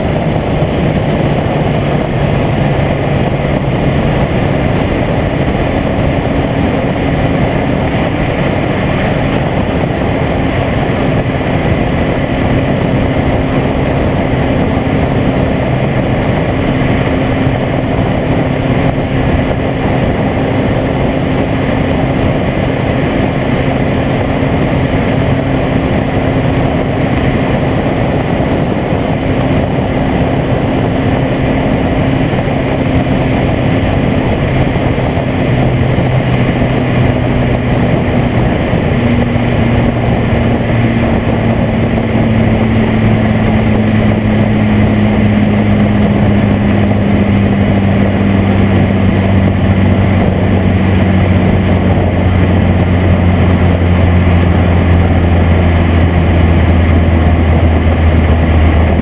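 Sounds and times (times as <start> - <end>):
car engine droning: 0.0 - 59.0
tyre and wind noise: 0.0 - 59.0.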